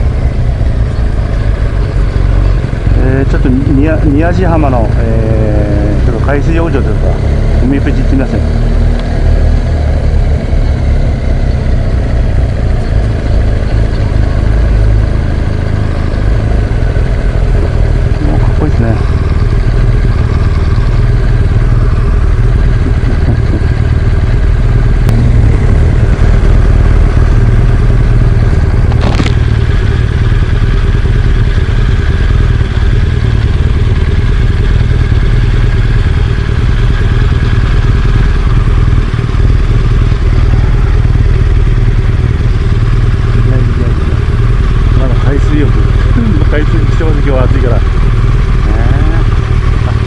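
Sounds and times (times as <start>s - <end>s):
motorcycle engine rumbling: 0.0s - 50.0s.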